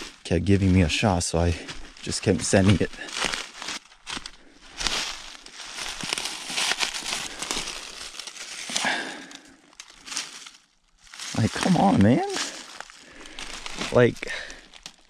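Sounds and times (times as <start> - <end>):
boots crunching through dry leaves: 0.0 - 15.0.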